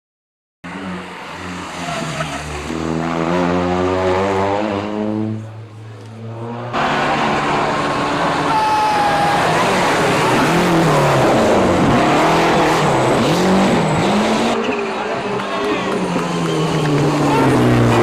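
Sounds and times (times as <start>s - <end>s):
rally car engine revving: 0.7s - 18.0s.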